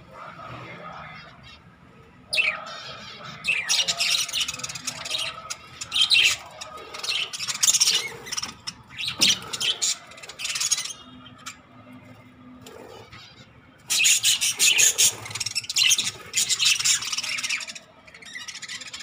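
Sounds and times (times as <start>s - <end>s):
budgerigars chirping and chattering: 0.7s - 19.0s.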